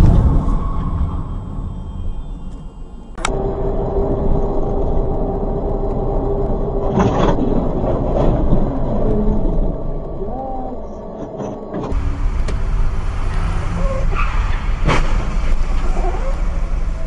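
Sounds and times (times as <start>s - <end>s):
noisy burst: 0.0s - 10.4s, 11.2s - 17.0s
car engine and road noise: 0.0s - 17.0s.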